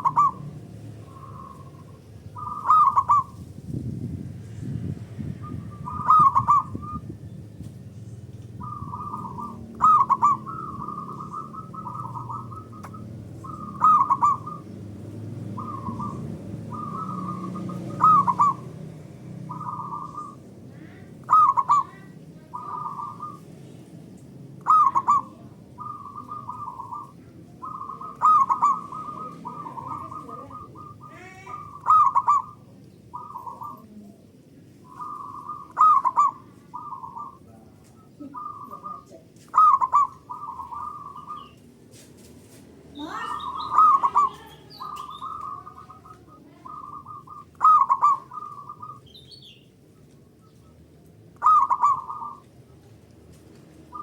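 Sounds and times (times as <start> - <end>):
doves cooing: 0.0 - 3.5, 5.4 - 42.0, 42.8 - 54.0.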